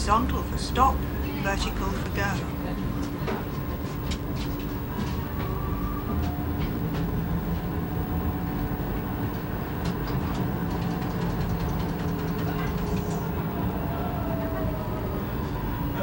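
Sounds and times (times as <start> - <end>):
tram electric running hum: 0.0 - 16.0
wheels clicking on rails: 0.0 - 16.0
faint whining tones: 0.5 - 16.0.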